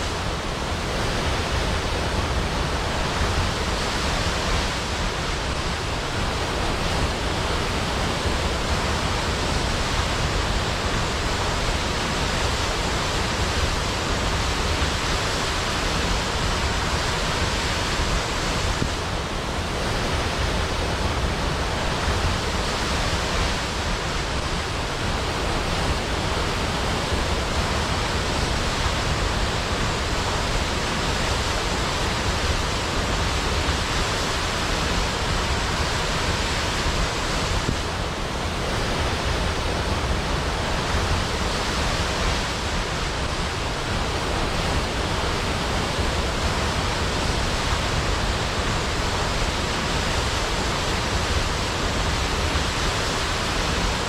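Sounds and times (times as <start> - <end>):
large waterfall pouring: 0.0 - 54.0.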